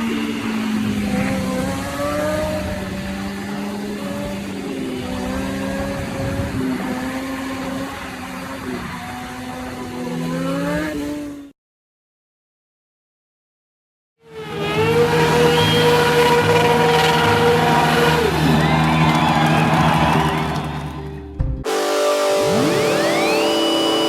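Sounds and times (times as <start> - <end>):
motorcycle engine revving: 0.0 - 11.5, 14.2 - 20.9, 21.6 - 24.0.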